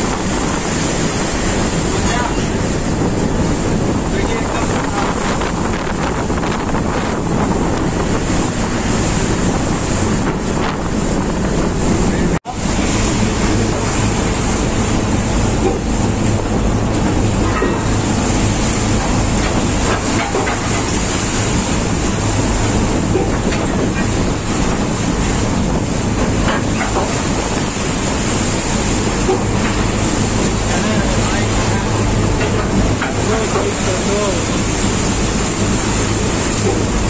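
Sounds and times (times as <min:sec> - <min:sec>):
low engine hum: 0:00.0 - 0:37.0
waves breaking over deck: 0:00.0 - 0:37.0
wind buffeting microphone: 0:00.0 - 0:37.0.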